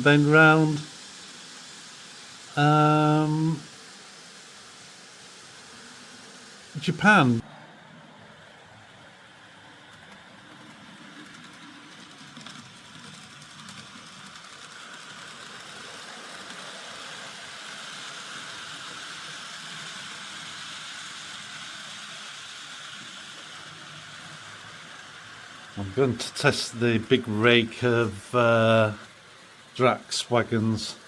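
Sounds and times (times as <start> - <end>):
model train whirring on track: 0.0 - 31.0.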